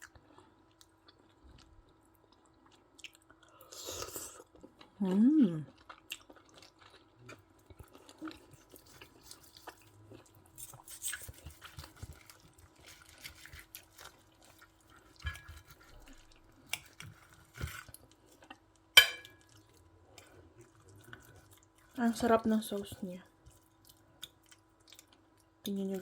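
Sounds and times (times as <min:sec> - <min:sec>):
wet chewing and smacking: 0:00.0 - 0:05.0, 0:05.6 - 0:26.0.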